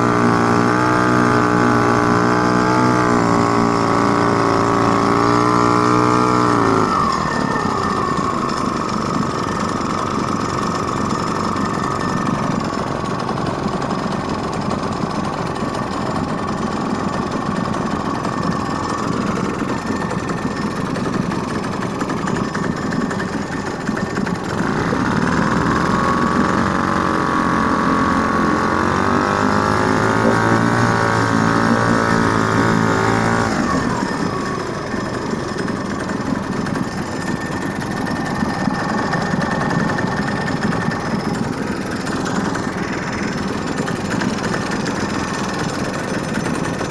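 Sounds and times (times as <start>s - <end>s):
boat engine running: 0.0s - 46.9s.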